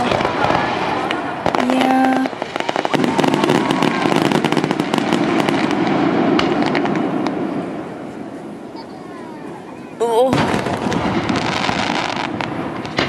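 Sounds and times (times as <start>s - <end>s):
continuous fireworks rumble: 0.0s - 13.0s
fireworks crackling: 0.0s - 13.0s.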